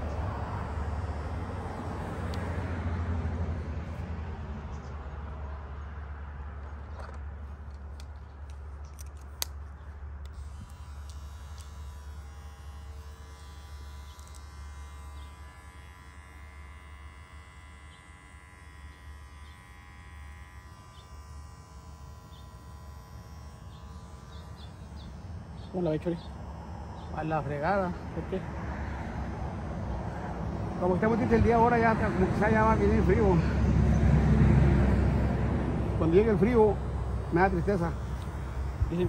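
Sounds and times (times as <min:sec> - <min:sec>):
electric hair trimmer buzzing: 0:00.0 - 0:04.0, 0:10.2 - 0:39.0.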